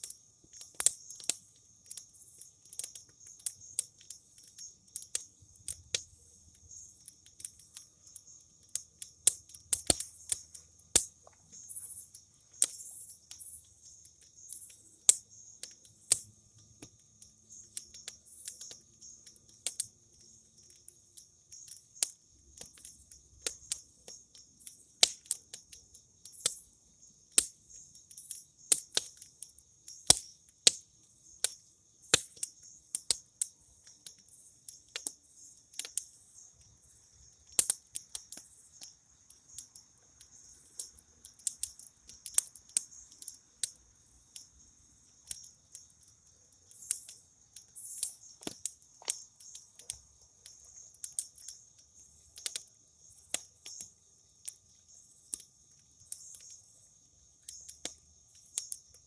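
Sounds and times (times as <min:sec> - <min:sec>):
campfire crackling and popping: 0:00.0 - 0:56.7, 0:57.3 - 0:59.0
crickets chirping: 0:00.0 - 0:59.0.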